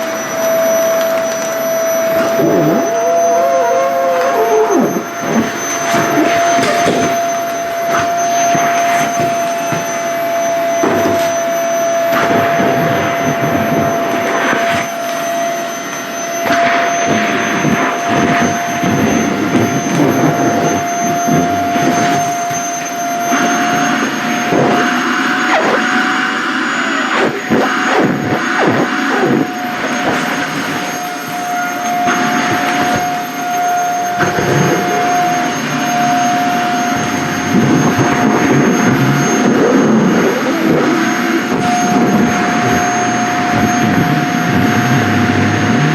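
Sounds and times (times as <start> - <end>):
vacuum cleaner whining: 0.0 - 45.9.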